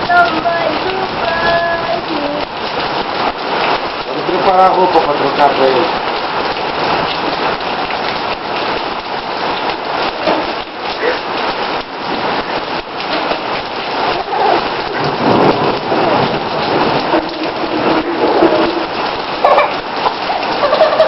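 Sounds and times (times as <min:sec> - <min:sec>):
heavy rain on hard surfaces: 0:00.0 - 0:21.0.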